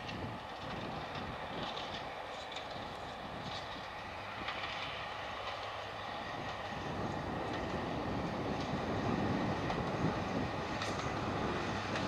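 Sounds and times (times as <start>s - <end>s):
diesel locomotive approaching: 0.0s - 12.0s.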